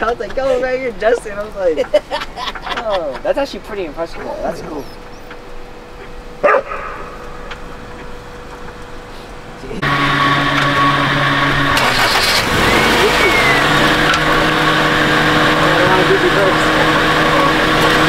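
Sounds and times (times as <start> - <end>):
car engine starting and running: 0.0 - 18.0.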